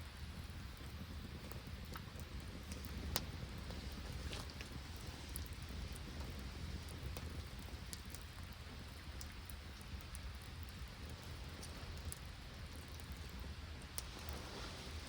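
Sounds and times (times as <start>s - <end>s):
rain and sleet falling: 0.0s - 15.0s.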